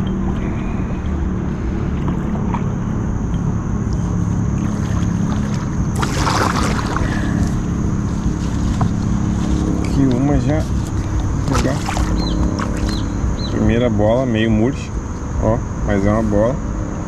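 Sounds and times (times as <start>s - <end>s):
small boat motor running: 0.0s - 15.6s.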